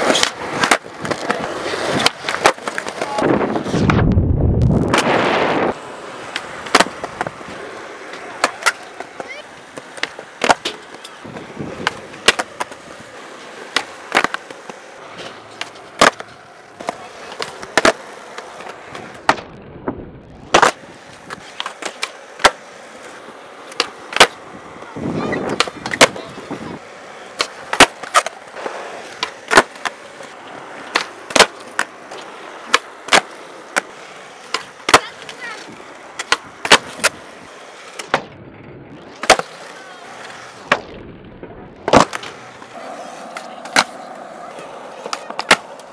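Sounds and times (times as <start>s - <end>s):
skateboard landing slaps: 0.0s - 4.1s, 4.8s - 5.6s, 6.2s - 19.6s, 20.4s - 38.4s, 39.1s - 41.0s, 41.8s - 45.9s
skateboard tail pops: 0.0s - 12.9s, 13.7s - 22.7s, 23.7s - 24.5s, 25.3s - 26.3s, 27.3s - 38.4s, 39.2s - 45.9s
wheels rolling on concrete: 0.0s - 45.9s.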